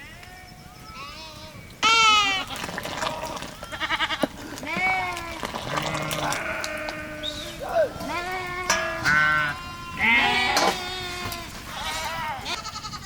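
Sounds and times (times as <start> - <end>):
sheep bleating: 0.0 - 13.0.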